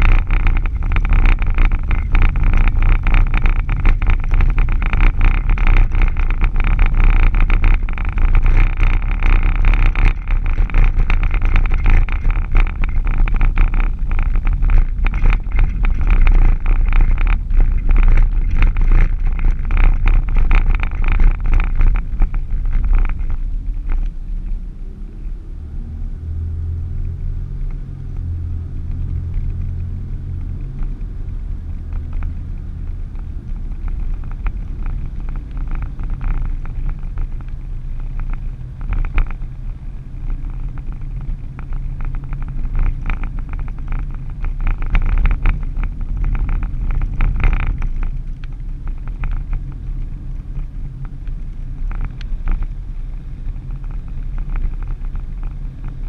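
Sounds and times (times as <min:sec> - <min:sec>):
road and tyre noise: 0:00.0 - 0:56.0
vehicle engine hum: 0:00.0 - 0:56.0.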